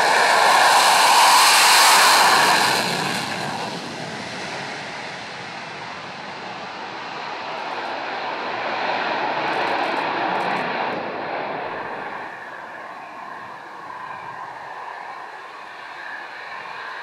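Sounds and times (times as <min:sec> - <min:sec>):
jet engine in afterburner: 0:00.0 - 0:17.0.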